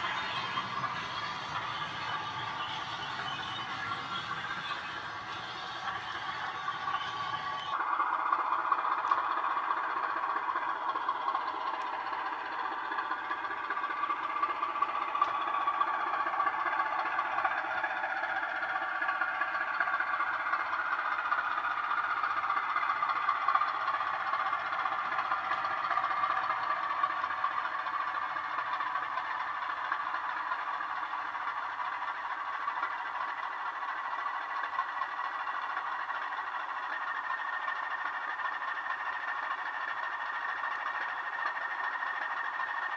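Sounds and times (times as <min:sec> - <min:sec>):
diesel engine through small speaker: 0:00.0 - 0:42.9
steady high whine: 0:00.0 - 0:42.9.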